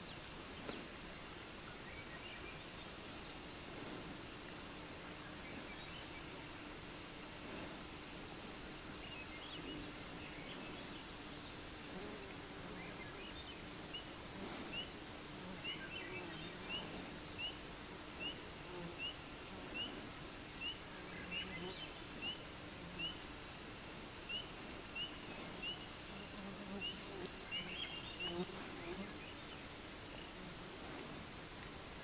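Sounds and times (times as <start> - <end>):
faint woods background hiss: 0.0 - 32.0.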